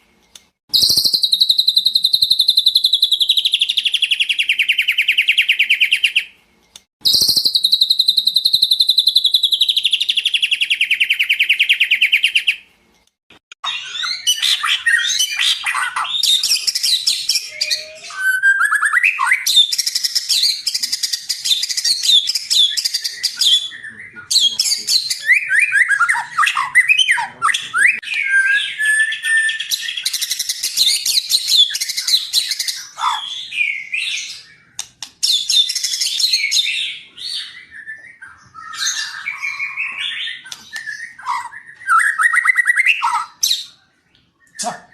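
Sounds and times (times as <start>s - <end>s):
bird singing whistles and trills: 0.7s - 6.3s, 7.0s - 12.6s, 13.6s - 44.9s.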